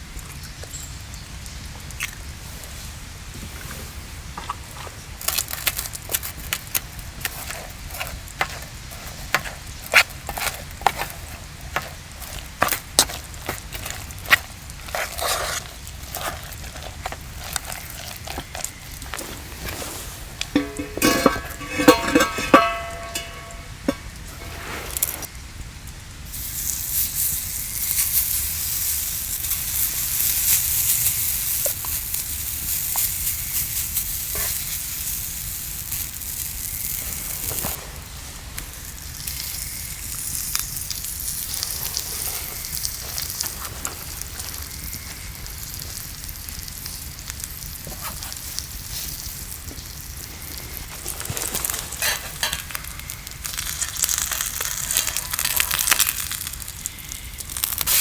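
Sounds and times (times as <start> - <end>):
food sizzling in a pan: 5.2 - 25.3, 26.2 - 58.0.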